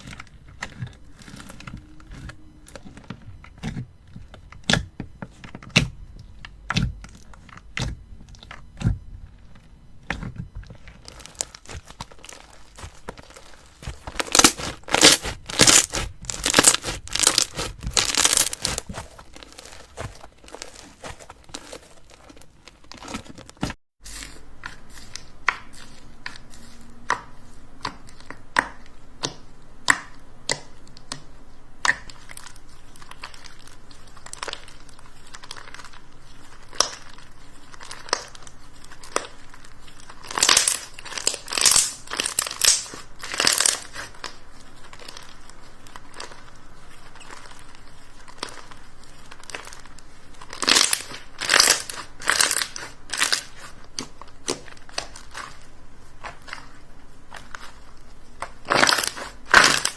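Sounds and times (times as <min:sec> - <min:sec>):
slime crackling squishes: 0:00.0 - 0:59.9.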